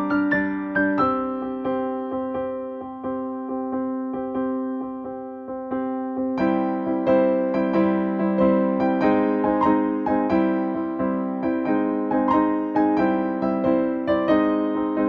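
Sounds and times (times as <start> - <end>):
electric piano melody: 0.0 - 15.0.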